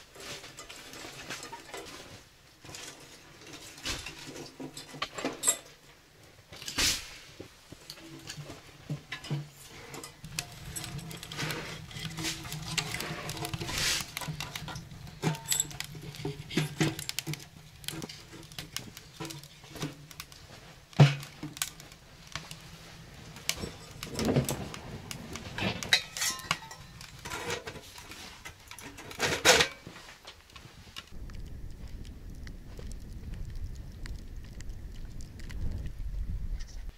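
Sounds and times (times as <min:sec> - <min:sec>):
kindling fire crackling: 0:00.0 - 0:36.9.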